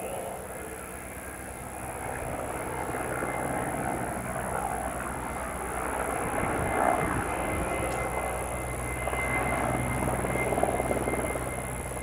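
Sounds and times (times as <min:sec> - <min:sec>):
helicopter flying over: 0:00.0 - 0:12.0.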